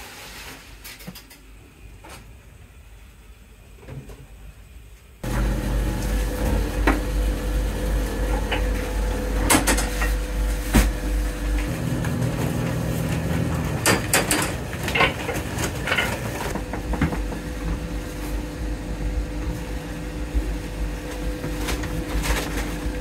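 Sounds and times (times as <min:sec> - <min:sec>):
low machine hum: 0:01.5 - 0:23.0.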